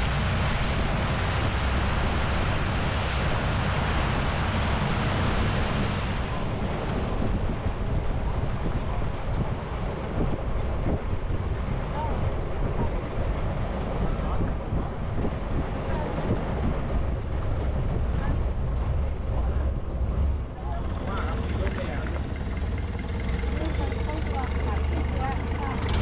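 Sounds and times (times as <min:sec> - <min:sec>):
steady low rumble: 0:00.0 - 0:26.0
water rushing past: 0:00.0 - 0:26.0
wind rushing over microphone: 0:00.0 - 0:26.0.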